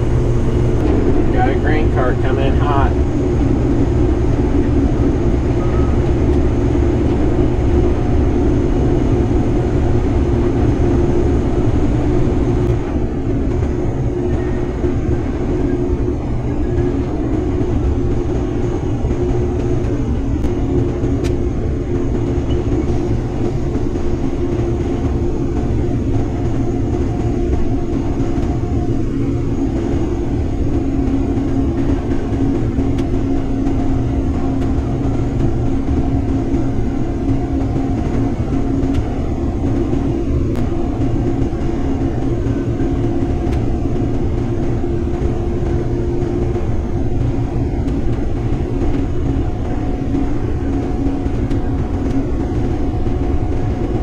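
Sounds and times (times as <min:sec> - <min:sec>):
auger running: 0:00.0 - 0:54.0
combine harvester engine drone: 0:00.0 - 0:54.0.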